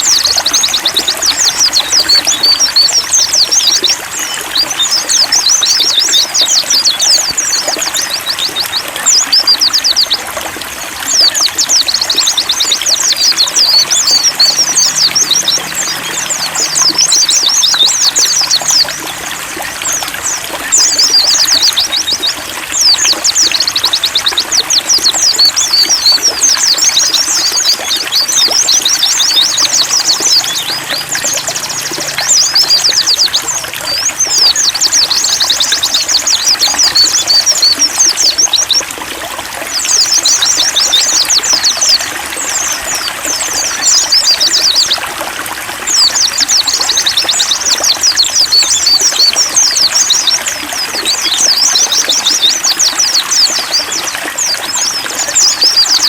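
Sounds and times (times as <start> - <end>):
birds twittering: 0.0 - 56.0
running water trickling: 0.0 - 56.0.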